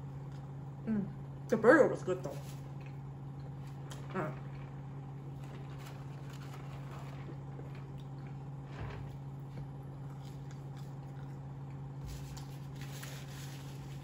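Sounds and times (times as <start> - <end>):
low hum: 0.0 - 14.0
chewing fries: 2.6 - 14.0.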